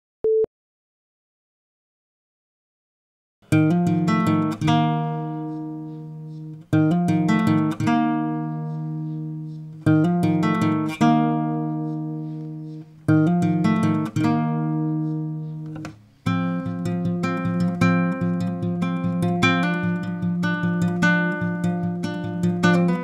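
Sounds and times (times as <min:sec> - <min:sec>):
strummed acoustic guitar: 0:03.5 - 0:23.0.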